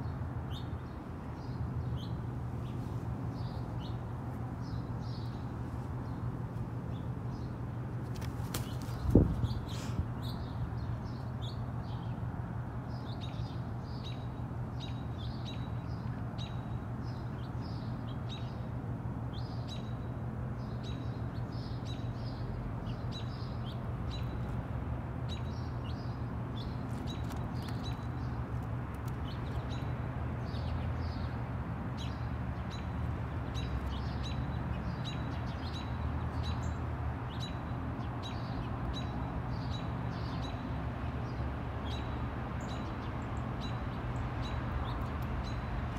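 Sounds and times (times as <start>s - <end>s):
small songbirds chirping: 0.0s - 45.9s.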